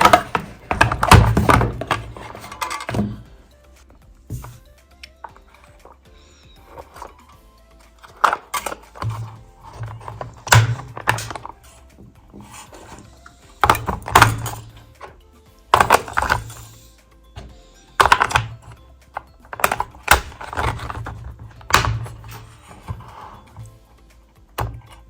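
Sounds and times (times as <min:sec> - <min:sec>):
background music with bass line: 0:00.0 - 0:25.0.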